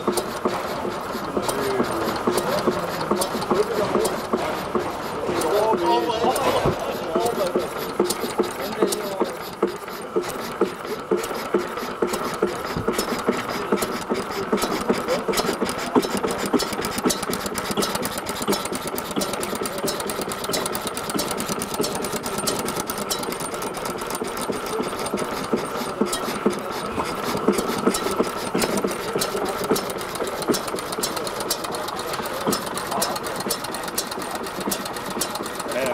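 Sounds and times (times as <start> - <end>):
small stationary engine clattering: 0.0 - 35.9.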